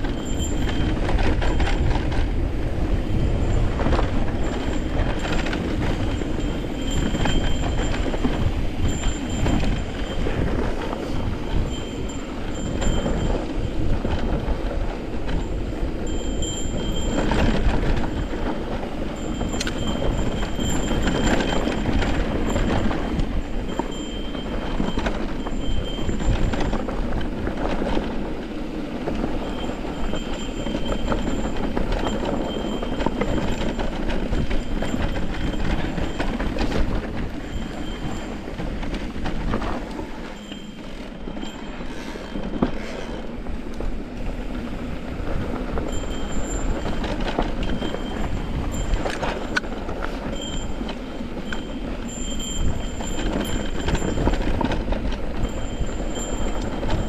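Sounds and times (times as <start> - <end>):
mountain bike rattling: 0.0 - 57.0
tyres rumbling over dirt: 0.0 - 57.0.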